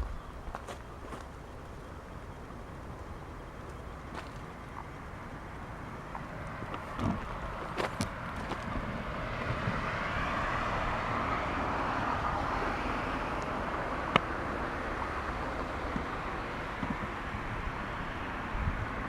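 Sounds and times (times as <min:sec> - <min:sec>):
car passing on road: 0:01.1 - 0:19.0.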